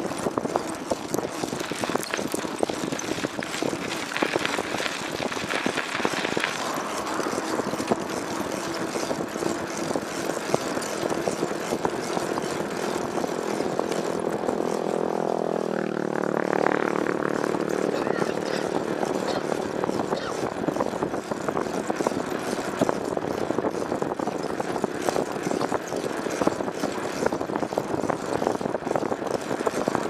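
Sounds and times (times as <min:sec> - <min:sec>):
vehicle engine running: 0:00.0 - 0:30.0
wind crackle on microphone: 0:00.0 - 0:30.0.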